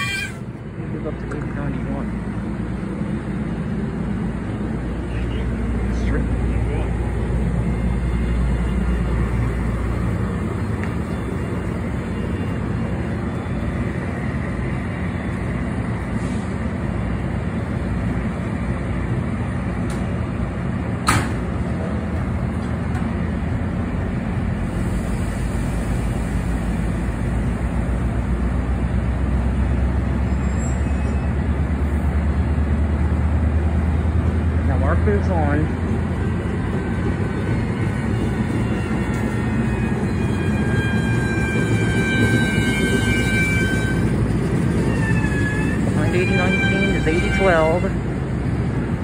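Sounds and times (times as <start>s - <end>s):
diesel locomotive drone: 0.0s - 49.0s
train coaches rumbling past: 0.0s - 49.0s.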